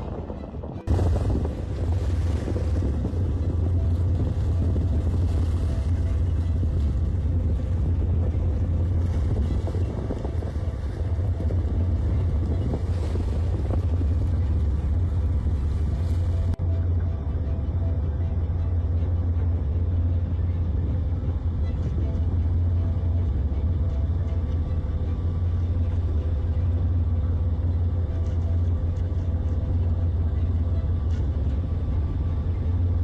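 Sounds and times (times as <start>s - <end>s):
boat engine droning: 0.0s - 33.0s
wind noise on microphone: 0.0s - 33.0s.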